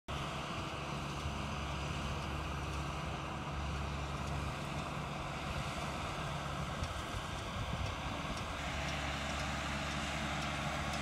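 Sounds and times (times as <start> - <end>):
tractor diesel engine running: 0.1 - 11.0
round baler baling: 0.2 - 11.0.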